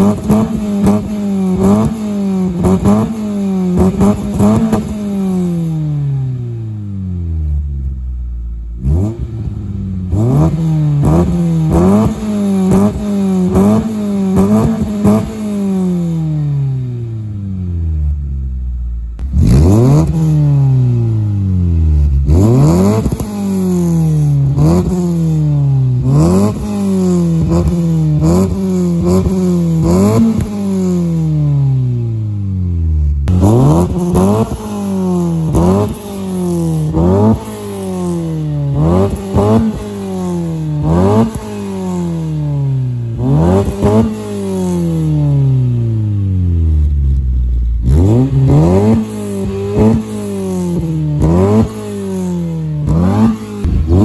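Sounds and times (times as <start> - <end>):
car engine revving through exhaust: 0.0 - 54.0.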